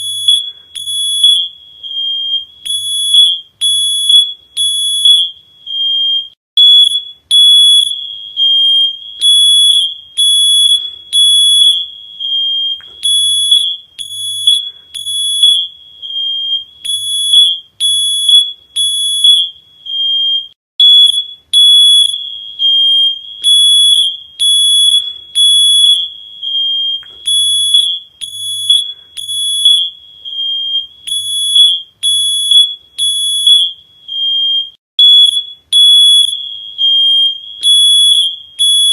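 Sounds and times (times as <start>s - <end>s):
smoke alarm beeping: 0.0s - 38.9s.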